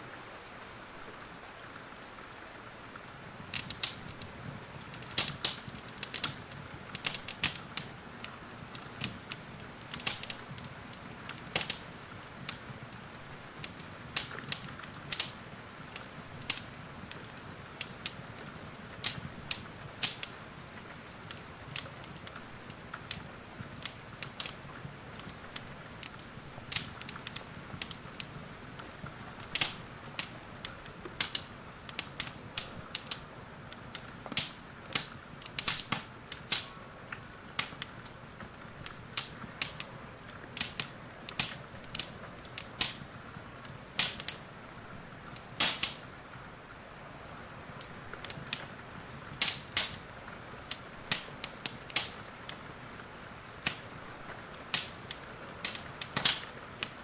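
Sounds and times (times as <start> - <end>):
rain hissing: 0.0 - 57.0
wood fire crackling: 0.3 - 57.0.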